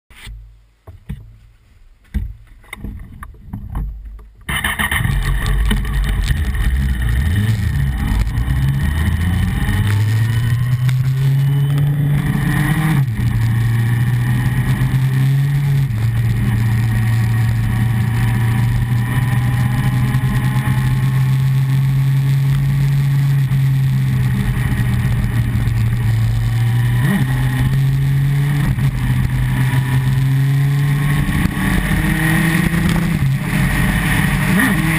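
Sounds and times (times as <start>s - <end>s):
wind noise: 2.6s - 34.9s
motorcycle engine: 4.5s - 34.9s.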